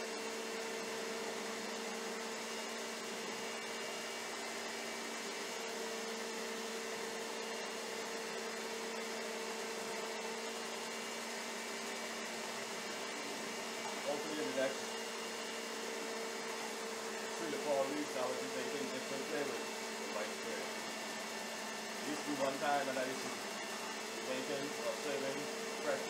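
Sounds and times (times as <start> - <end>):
stand mixer motor running: 0.0 - 26.0.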